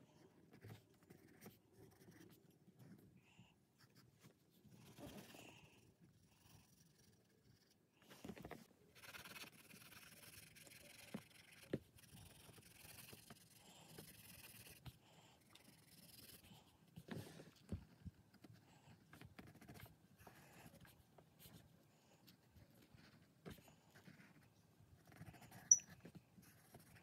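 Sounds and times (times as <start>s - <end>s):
pencil scratching on paper: 0.2s - 3.0s, 6.4s - 17.3s, 18.3s - 27.0s.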